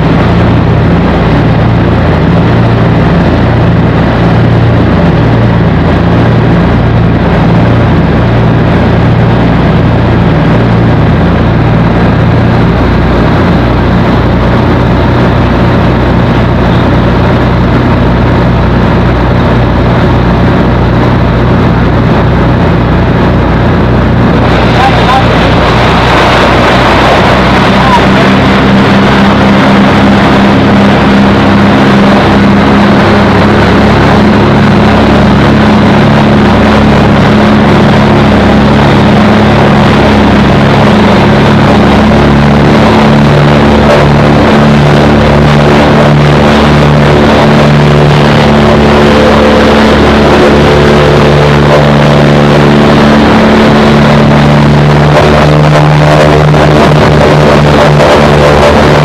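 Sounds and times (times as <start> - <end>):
aircraft engines droning in cabin: 0.0 - 59.0.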